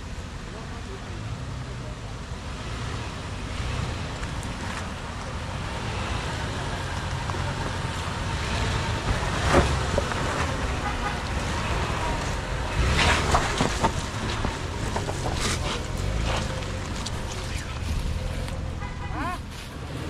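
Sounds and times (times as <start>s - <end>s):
off-road vehicle engine: 0.0s - 20.0s.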